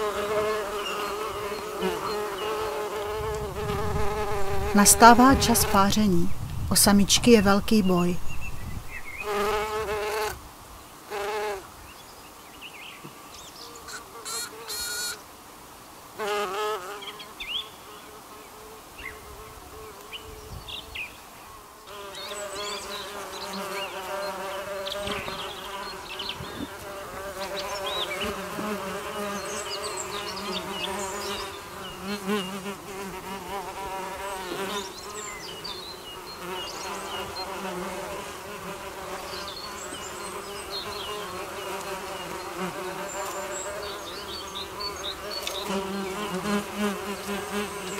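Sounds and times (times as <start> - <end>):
bees buzzing: 0.0 - 10.4, 13.6 - 47.9.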